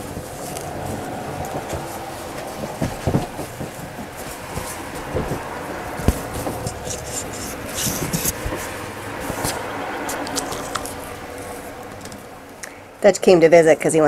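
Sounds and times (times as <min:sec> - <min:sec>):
heavy fabric rustling: 0:00.0 - 0:12.4.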